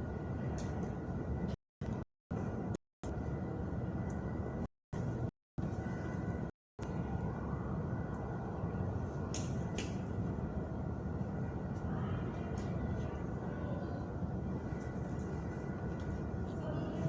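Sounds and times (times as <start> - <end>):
faint constant whine: 0.0 - 17.0.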